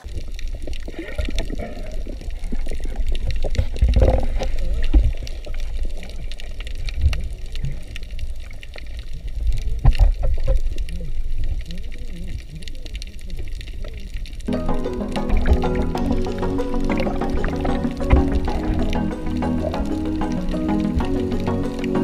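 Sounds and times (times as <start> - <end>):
crackling and bubbling: 0.0 - 22.0
muffled underwater water rumble: 0.0 - 22.0.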